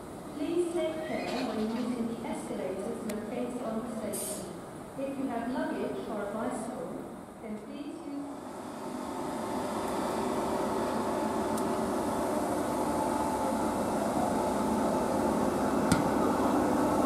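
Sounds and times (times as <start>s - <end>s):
train passing hum: 0.0s - 17.0s.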